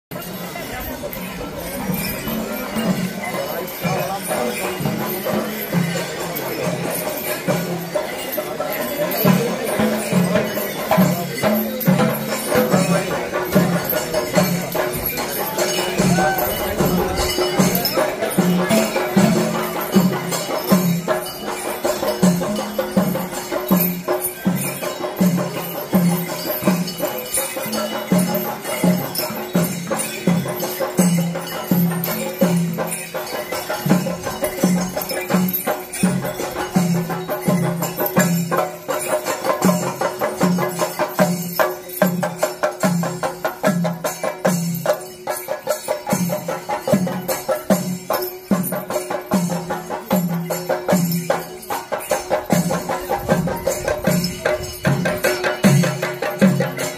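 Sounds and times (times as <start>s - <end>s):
drums beaten in steady rhythm: 0.1s - 56.9s
metallic cymbal clashes: 0.1s - 56.9s.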